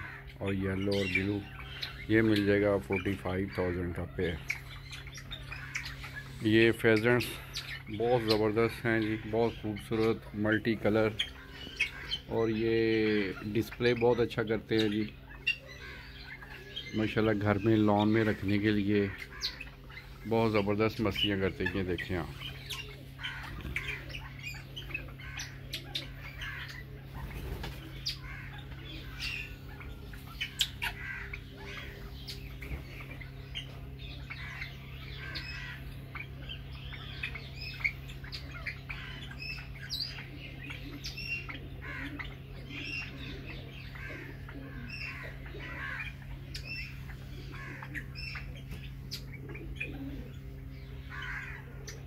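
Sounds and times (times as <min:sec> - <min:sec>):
birds chirping and calling: 0:00.0 - 0:52.0
steady low hum: 0:00.0 - 0:52.0.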